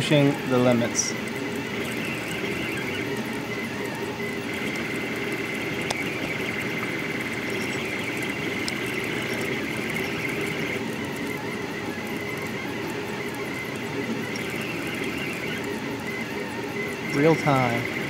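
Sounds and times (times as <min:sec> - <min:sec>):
three d printer motors whining: 0:00.0 - 0:18.0.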